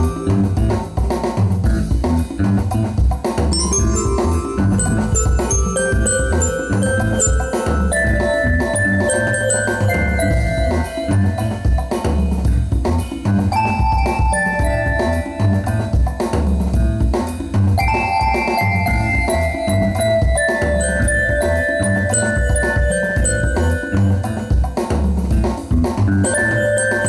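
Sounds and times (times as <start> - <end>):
instrumental music with drum kit: 0.0 - 27.0.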